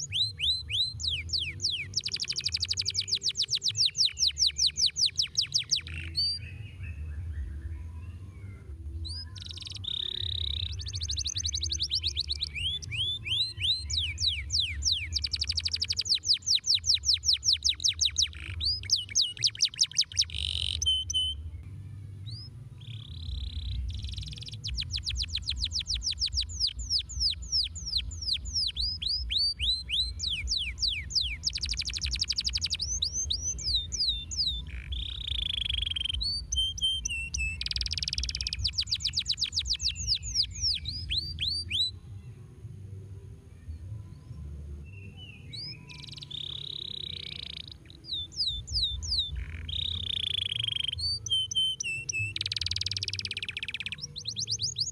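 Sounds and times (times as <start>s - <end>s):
canary singing trills: 0.0s - 21.6s, 22.2s - 42.0s, 44.4s - 54.9s.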